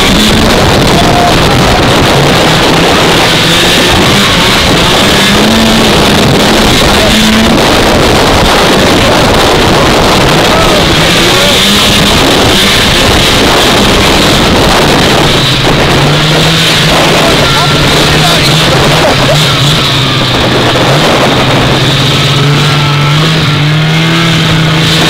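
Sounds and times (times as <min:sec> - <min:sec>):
two-stroke snowmobile engine: 0:00.0 - 0:25.0
wind noise on microphone: 0:00.0 - 0:25.0.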